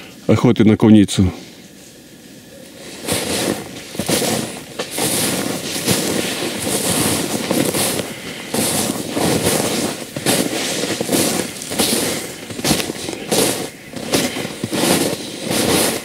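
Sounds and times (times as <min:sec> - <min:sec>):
branches brushing against clothing: 0:01.5 - 0:16.0
footsteps crunching through snow: 0:01.7 - 0:16.0.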